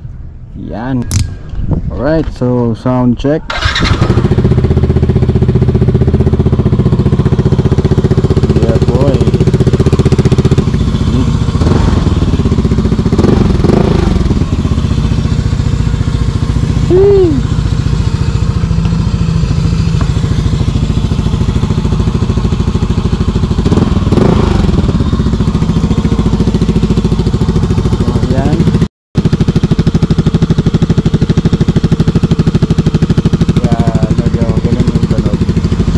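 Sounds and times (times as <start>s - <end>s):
motorcycle exhaust: 3.5s - 35.9s.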